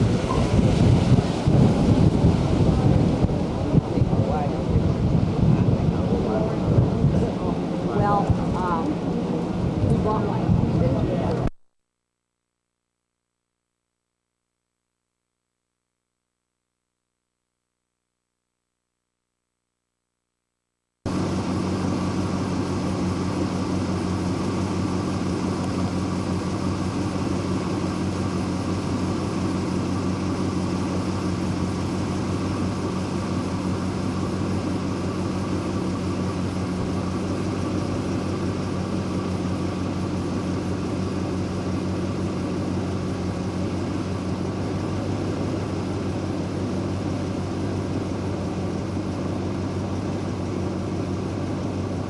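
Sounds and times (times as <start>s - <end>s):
vehicle engine drone: 0.0s - 11.6s, 21.1s - 52.0s.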